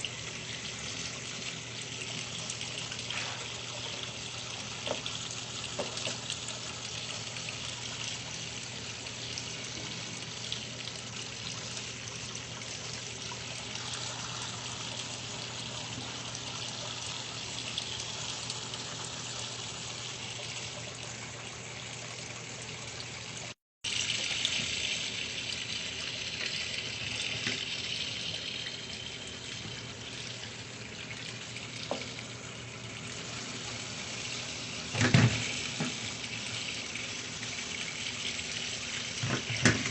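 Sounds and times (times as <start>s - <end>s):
water splashing in washing machine: 0.0s - 39.9s.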